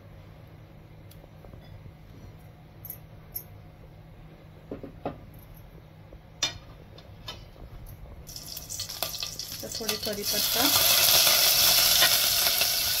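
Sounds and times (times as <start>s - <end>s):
faint low hum: 0.0s - 10.5s.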